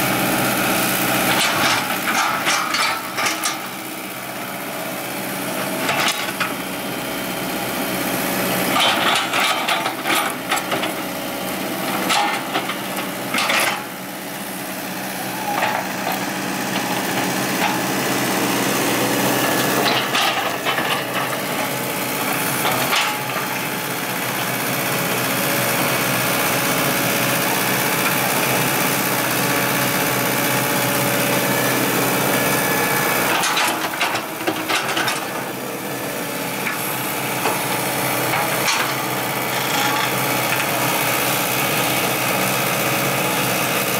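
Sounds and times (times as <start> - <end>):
excavator engine running: 0.0 - 43.9.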